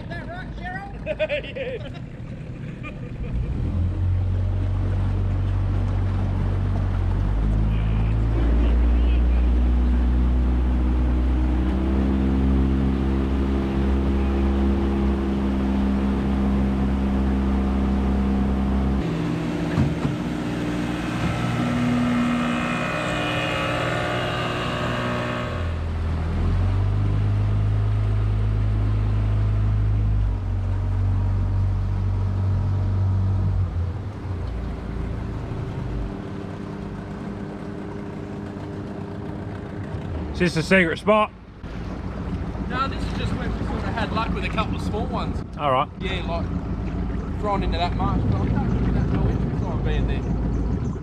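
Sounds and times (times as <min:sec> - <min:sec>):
outboard motor running: 0:00.0 - 0:51.0
water rushing along hull: 0:00.0 - 0:51.0.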